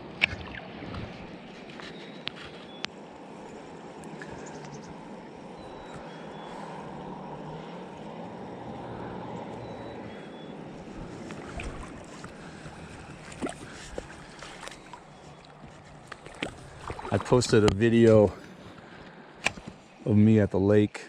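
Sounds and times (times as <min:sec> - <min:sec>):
river flowing: 0:00.0 - 0:20.1.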